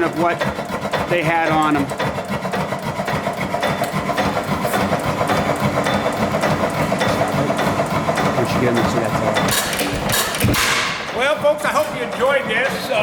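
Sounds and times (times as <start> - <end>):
engine rapid mechanical clatter: 0.0 - 13.0.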